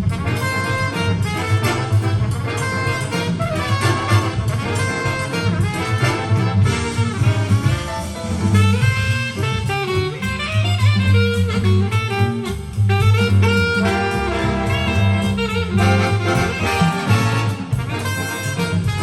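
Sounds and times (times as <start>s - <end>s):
drums: 0.0s - 19.0s
saxophone lead: 0.0s - 19.0s
walking double bass: 0.0s - 19.0s.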